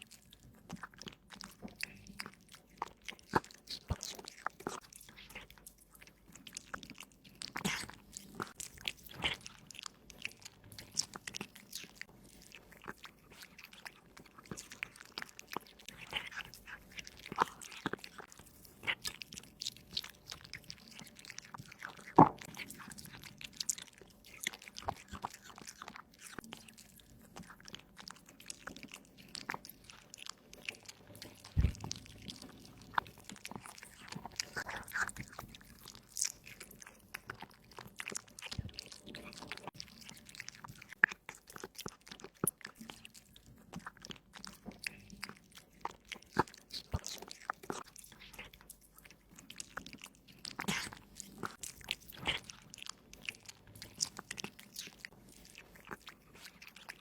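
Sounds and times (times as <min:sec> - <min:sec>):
cat chewing meat and bone: 0:00.0 - 0:57.0.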